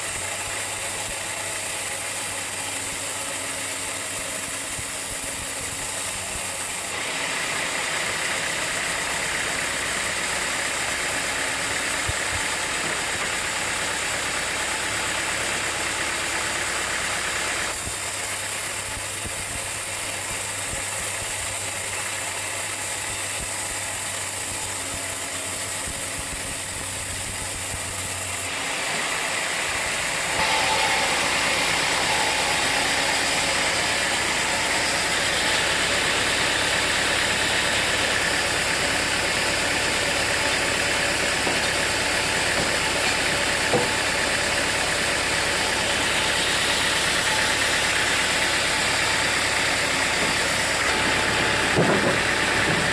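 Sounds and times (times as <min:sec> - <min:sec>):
sawmill machinery drone: 0:00.0 - 0:52.9.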